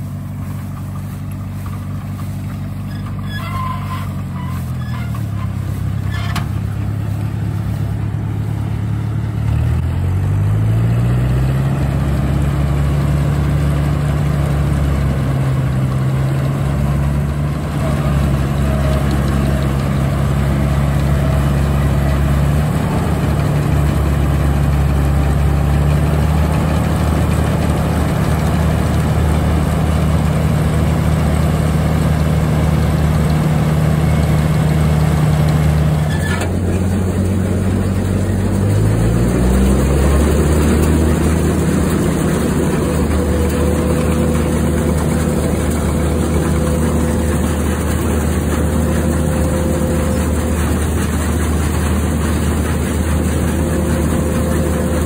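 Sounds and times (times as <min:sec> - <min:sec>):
combine harvester engine running: 0:00.0 - 0:55.0
threshing machinery: 0:00.0 - 0:55.0.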